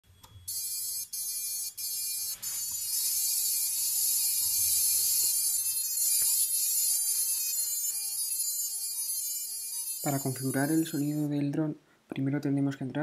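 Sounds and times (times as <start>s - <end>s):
drone motors playing buzzy tune: 0.5s - 11.2s.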